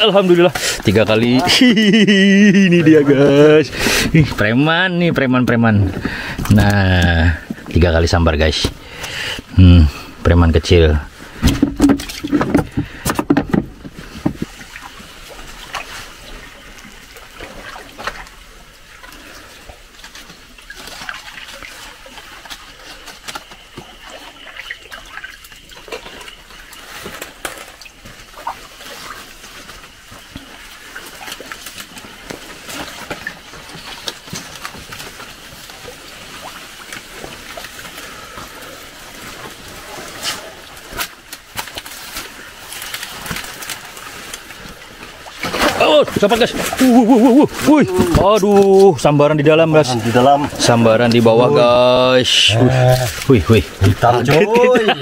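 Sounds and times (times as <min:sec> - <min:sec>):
water sloshing and trickling: 0:00.0 - 0:55.0.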